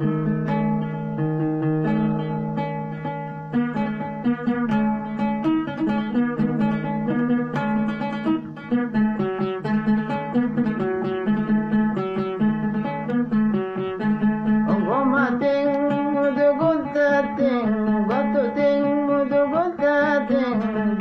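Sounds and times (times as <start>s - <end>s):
oud melody of plucked notes: 0.0s - 21.0s.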